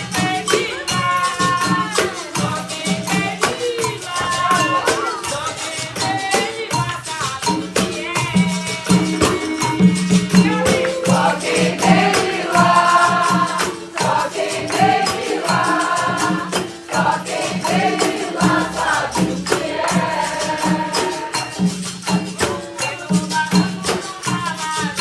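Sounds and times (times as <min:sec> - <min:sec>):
group singing in chorus: 0:00.0 - 0:06.8, 0:08.1 - 0:22.3
pandeiro drum: 0:00.0 - 0:25.0
berimbau: 0:00.2 - 0:25.0.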